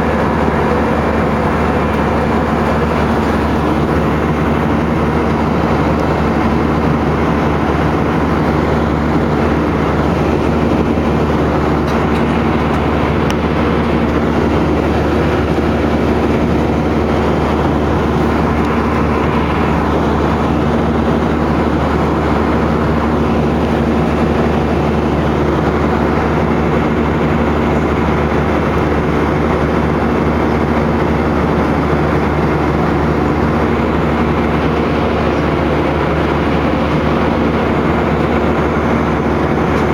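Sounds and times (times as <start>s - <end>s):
airliner cabin engine drone: 0.0s - 39.9s
low hums: 0.0s - 39.9s.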